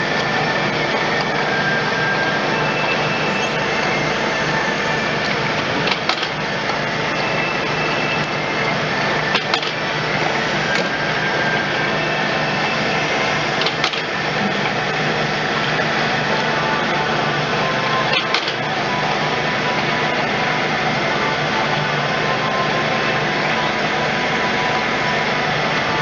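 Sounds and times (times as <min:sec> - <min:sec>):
automatic lathe running: 0:00.0 - 0:26.0.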